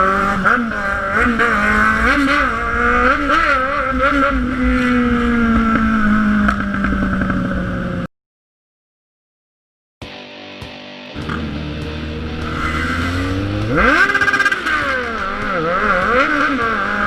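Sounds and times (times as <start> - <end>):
motorcycle engine revving: 0.0 - 8.1, 11.1 - 17.0.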